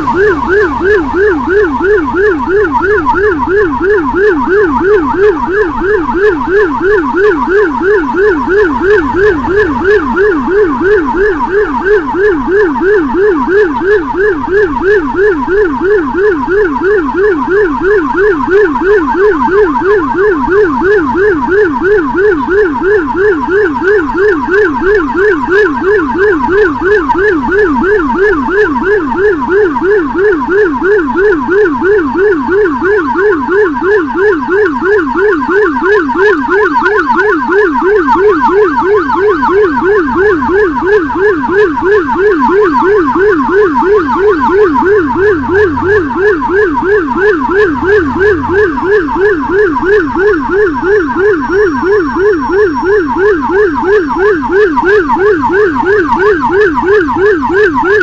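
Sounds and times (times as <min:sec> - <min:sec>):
electronic siren yelping: 0:00.0 - 0:58.0.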